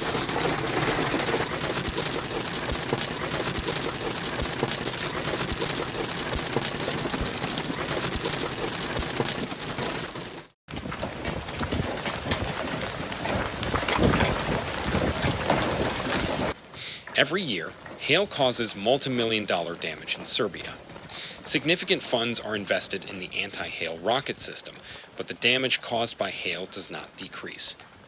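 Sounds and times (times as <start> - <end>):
hail and rain pelting: 0.0 - 22.8, 23.6 - 25.1.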